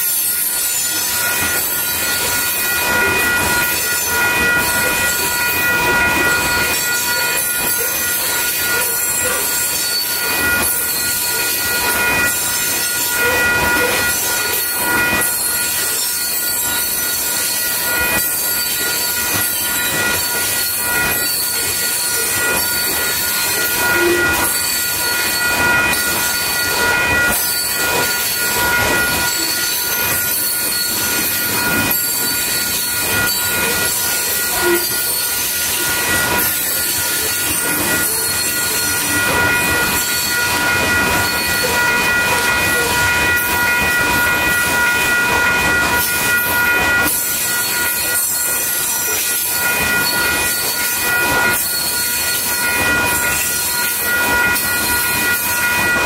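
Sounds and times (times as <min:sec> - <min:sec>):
high ringing: 0:00.0 - 0:56.0
train wheels rumbling on rail: 0:00.0 - 0:56.0.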